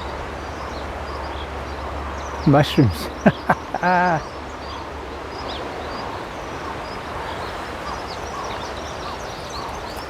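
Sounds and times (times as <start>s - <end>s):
small birds chirping: 0.0s - 10.0s
steady background hiss: 0.0s - 10.0s.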